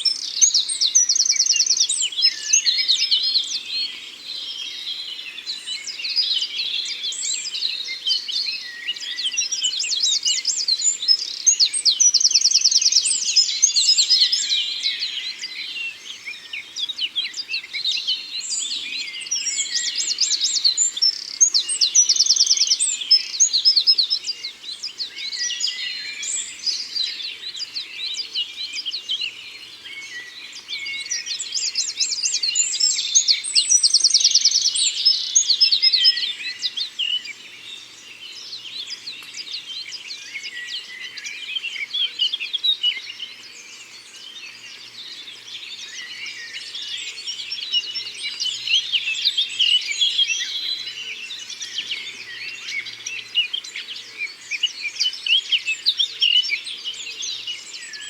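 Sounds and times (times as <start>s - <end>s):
birds singing and chirping: 0.0s - 58.0s.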